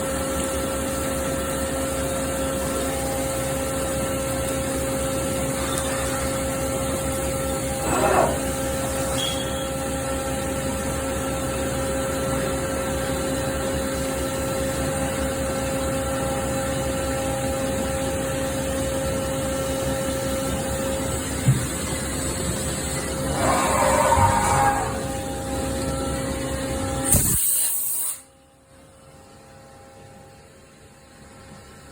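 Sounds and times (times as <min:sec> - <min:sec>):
machine humming and whining: 0:00.0 - 0:27.3.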